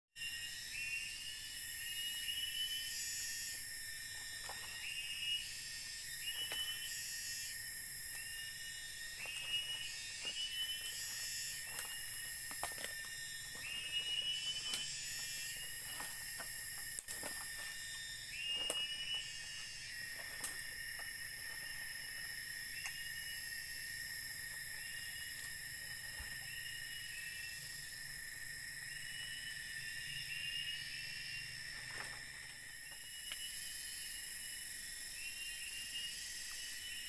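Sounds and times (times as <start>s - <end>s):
high insect trilling: 0.2s - 37.0s
insects droning: 0.2s - 37.0s.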